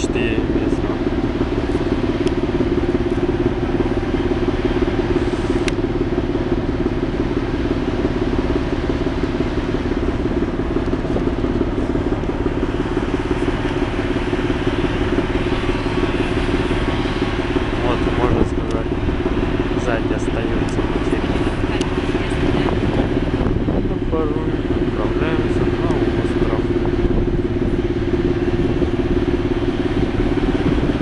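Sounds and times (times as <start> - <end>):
ferry engine low drone: 0.0 - 31.0.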